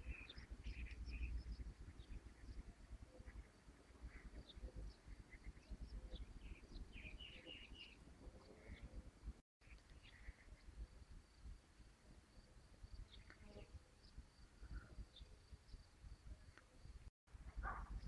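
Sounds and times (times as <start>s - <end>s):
small birds chirping: 0.0s - 11.6s, 12.8s - 18.0s.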